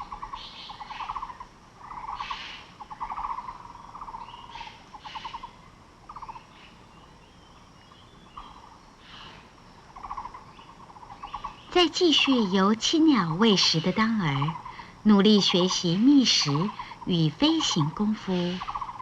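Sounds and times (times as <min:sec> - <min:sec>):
birds giving rasping pulsed calls: 0:00.0 - 0:06.8, 0:07.4 - 0:19.0.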